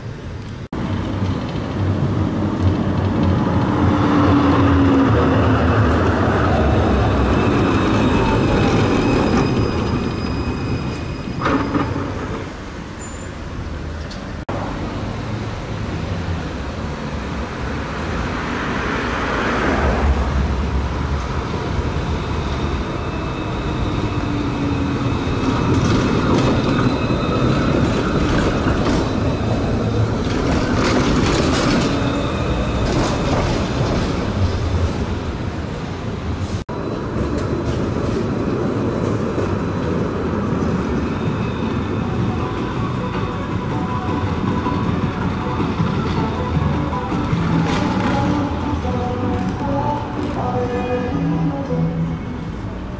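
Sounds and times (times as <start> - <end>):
electric tram rumbling past: 0.0 - 52.9
tram high whine: 0.0 - 52.9.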